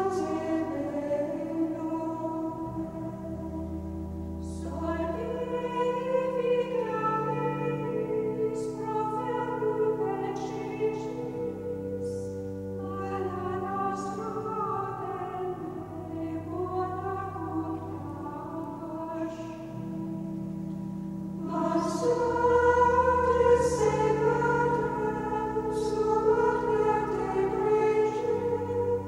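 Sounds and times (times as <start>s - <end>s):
choir singing held chords: 0.0s - 29.0s.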